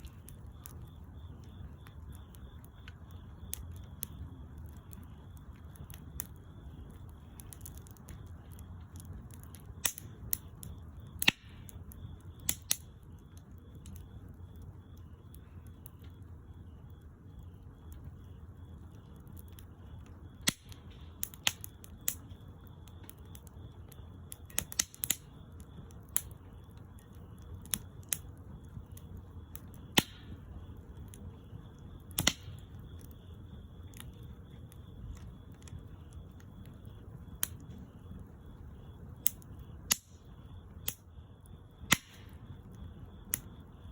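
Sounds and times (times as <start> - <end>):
bonfire crackling and popping: 0.0 - 43.9
flames roaring low: 0.0 - 43.9.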